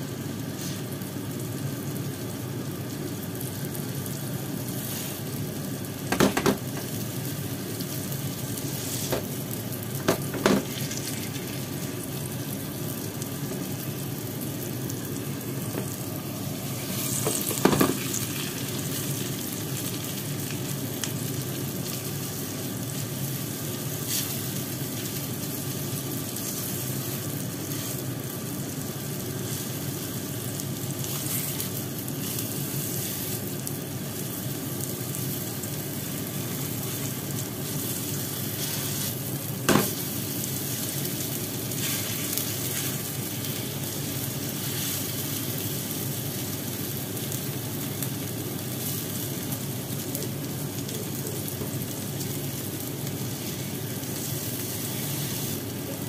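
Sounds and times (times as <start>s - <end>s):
patties sizzling in oil: 0.0s - 56.0s.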